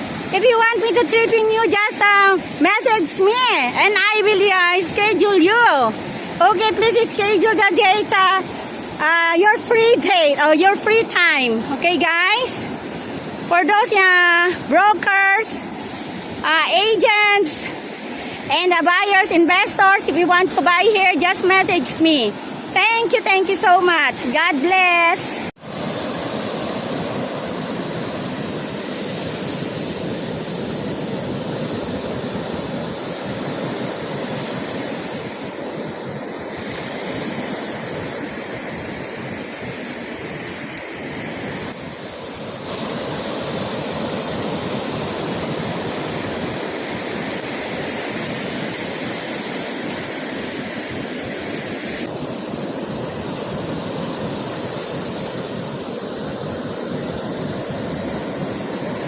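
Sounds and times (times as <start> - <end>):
ocean surf breaking on beach: 0.0 - 59.0.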